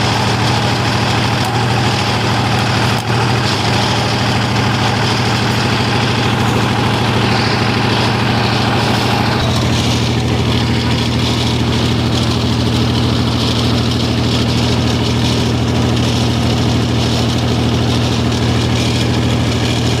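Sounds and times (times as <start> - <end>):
diesel generator running: 0.0 - 20.0.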